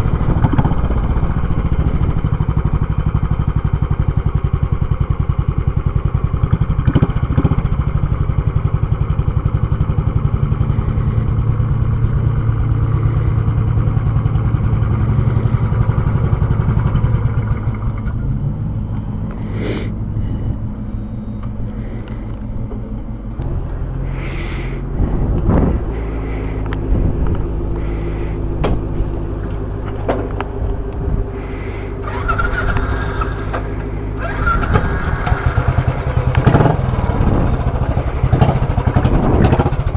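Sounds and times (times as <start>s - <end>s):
motorcycle engine chugging: 0.0s - 39.9s.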